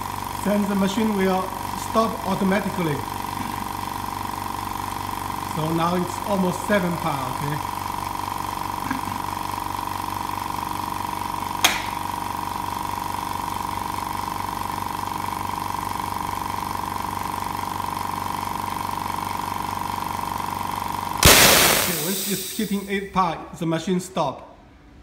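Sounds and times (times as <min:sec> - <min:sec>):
air compressor humming: 0:00.0 - 0:23.0.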